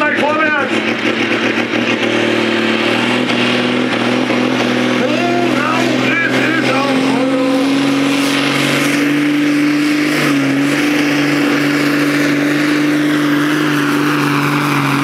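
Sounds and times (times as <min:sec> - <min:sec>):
tractor engine at high revs: 0:00.0 - 0:15.0.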